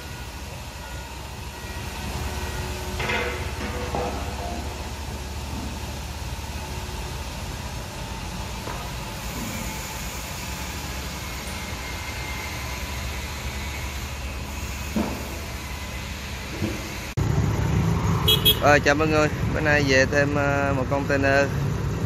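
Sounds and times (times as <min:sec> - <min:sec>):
engine rumbling: 0:00.0 - 0:22.0.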